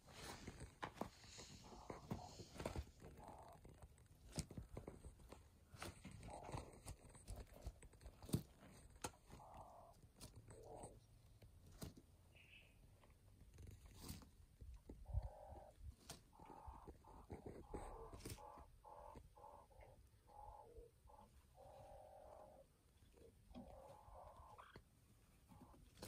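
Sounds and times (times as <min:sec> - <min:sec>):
soft low quail calls: 0:00.0 - 0:11.4, 0:12.2 - 0:13.2, 0:14.0 - 0:26.0.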